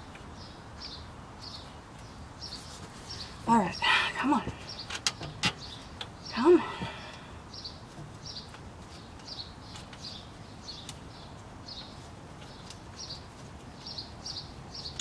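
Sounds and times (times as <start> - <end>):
small bird chirping: 0.3 - 15.0.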